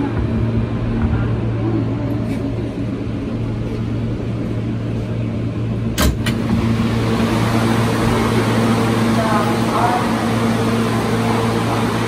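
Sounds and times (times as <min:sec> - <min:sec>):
low motor hum: 0:00.0 - 0:12.0
subway train rumbling: 0:00.0 - 0:12.0.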